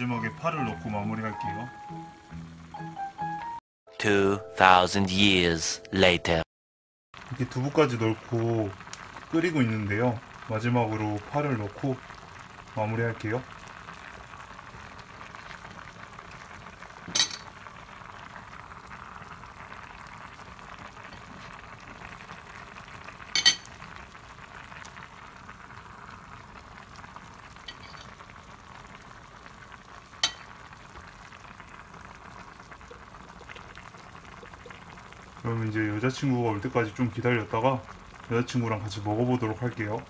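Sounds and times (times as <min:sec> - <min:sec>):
stew bubbling in a pot: 0:07.2 - 0:40.0.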